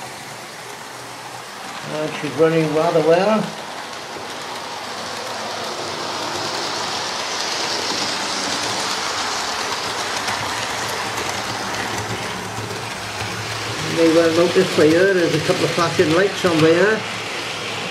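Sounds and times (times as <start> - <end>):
model train running on track: 0.0 - 17.9.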